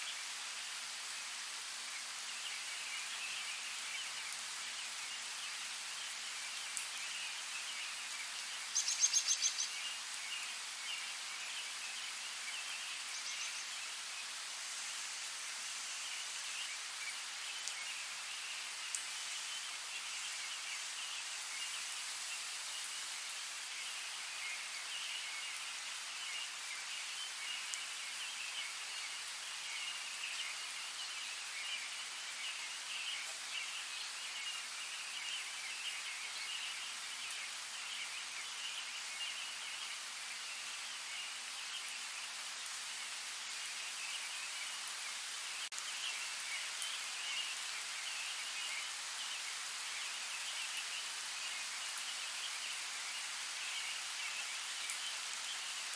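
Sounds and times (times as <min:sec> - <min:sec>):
rain falling in forest: 0:00.0 - 0:55.9.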